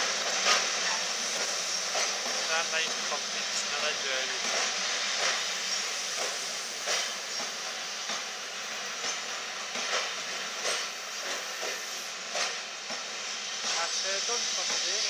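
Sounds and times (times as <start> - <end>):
steady hiss: 0.0 - 15.0
train wheels clicking over rail joints: 0.0 - 15.0.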